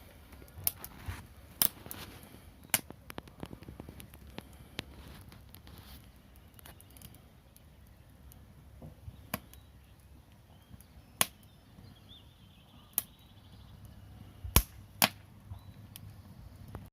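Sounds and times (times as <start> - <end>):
fire crackling: 0.0 - 16.9
wood fire rumbling: 0.0 - 16.9
sharp pops from fire: 0.3 - 11.6, 12.9 - 13.2, 13.8 - 16.9.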